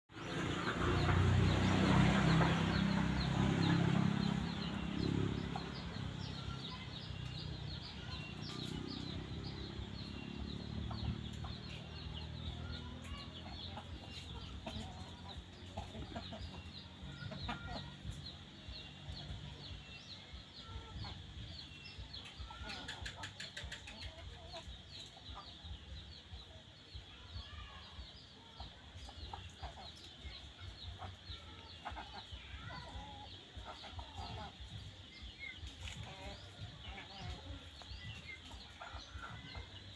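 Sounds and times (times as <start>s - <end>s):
chickens clucking: 0.1s - 39.9s.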